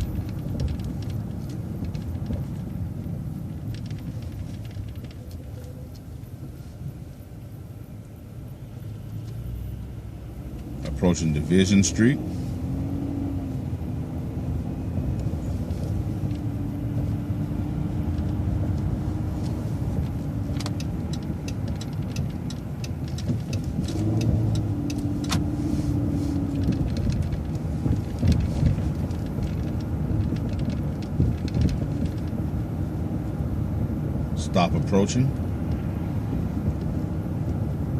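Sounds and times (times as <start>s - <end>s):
bus engine and road rumble: 0.0s - 37.9s.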